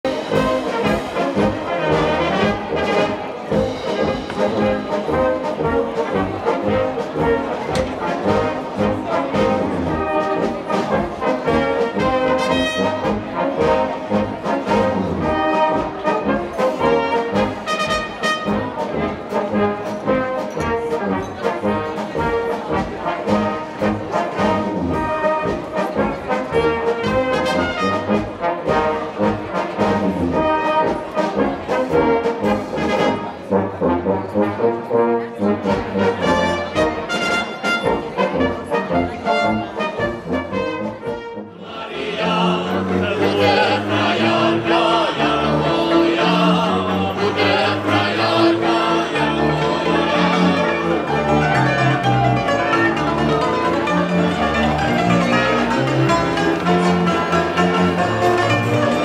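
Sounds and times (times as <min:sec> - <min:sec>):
brass band playing dance tune: 0:00.0 - 0:59.0.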